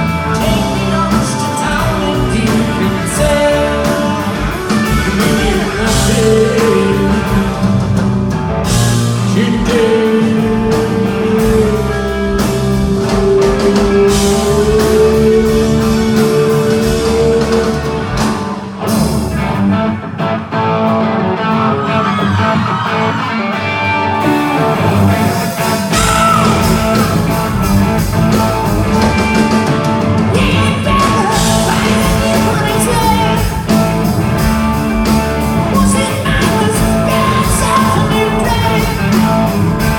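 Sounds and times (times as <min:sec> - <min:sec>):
person singing: 0:00.0 - 0:08.0, 0:08.6 - 0:18.7, 0:21.2 - 0:39.9
live rock band playing: 0:00.0 - 0:39.9.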